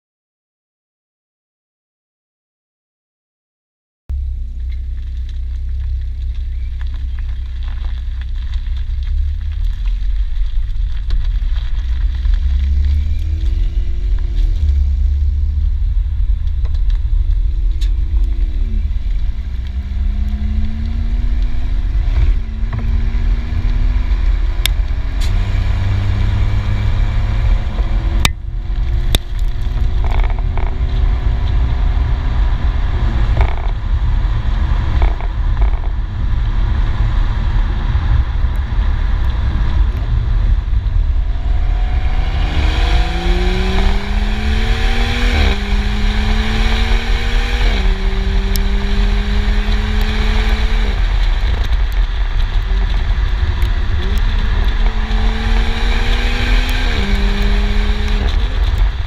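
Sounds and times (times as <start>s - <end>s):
car exhaust accelerating: 4.1s - 59.0s
wind buffeting microphone: 8.8s - 59.0s.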